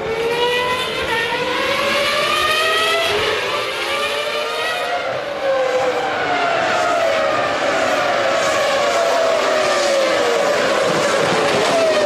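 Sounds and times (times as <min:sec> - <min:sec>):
racing car engine at full throttle: 0:00.0 - 0:12.0.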